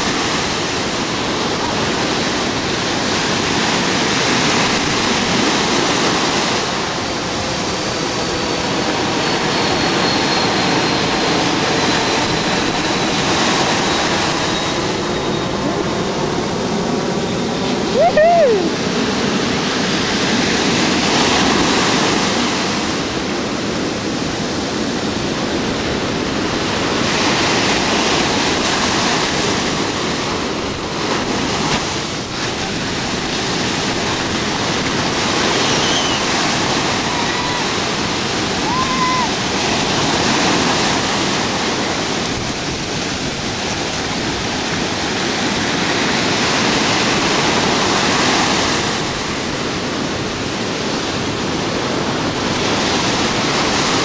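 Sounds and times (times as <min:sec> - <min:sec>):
ocean surf breaking: 0:00.0 - 0:54.0.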